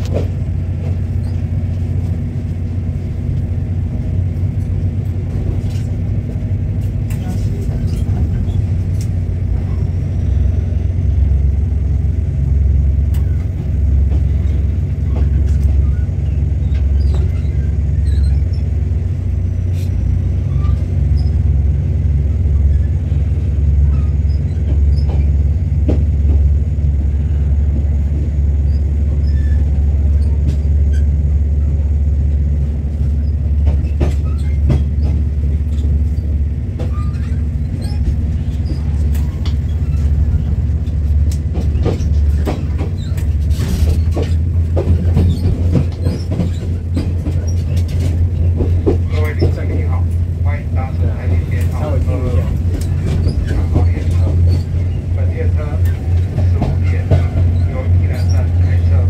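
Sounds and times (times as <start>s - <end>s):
train low hum: 0.0s - 59.0s.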